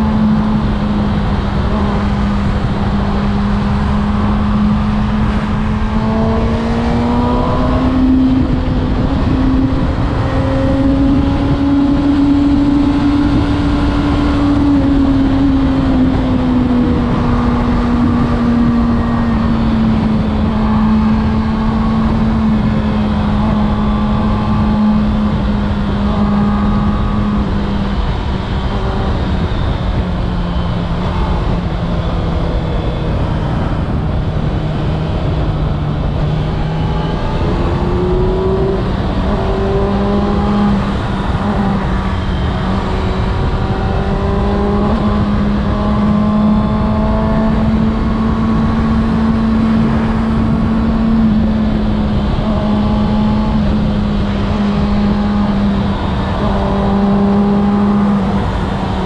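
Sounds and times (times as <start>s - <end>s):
motorcycle engine running: 0.0s - 59.0s
wind noise: 0.0s - 59.0s.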